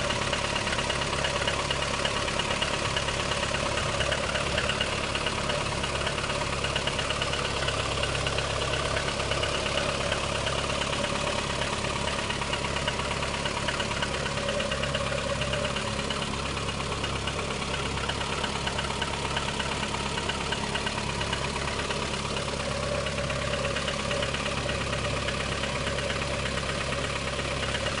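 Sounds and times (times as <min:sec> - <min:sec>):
car engine idling: 0:00.0 - 0:28.0
engine knocking tick: 0:00.0 - 0:28.0.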